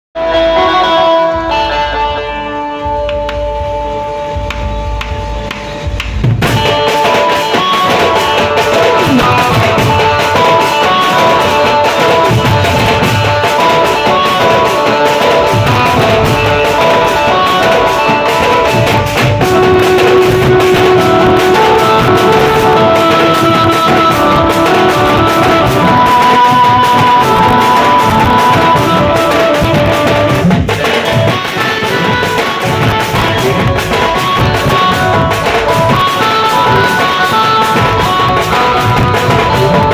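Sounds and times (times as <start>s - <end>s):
dhol drums beating: 0.2s - 39.9s
loud amplified melody: 0.2s - 39.9s.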